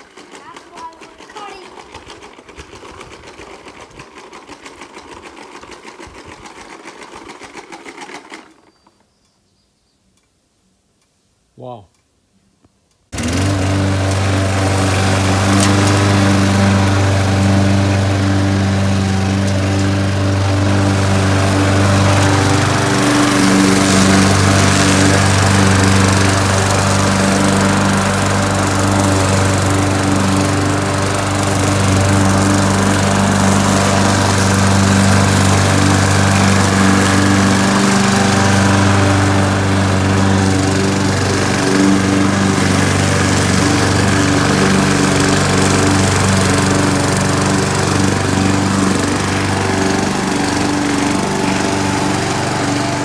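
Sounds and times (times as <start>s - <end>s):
lawn mower running: 0.0s - 9.0s, 13.1s - 53.0s.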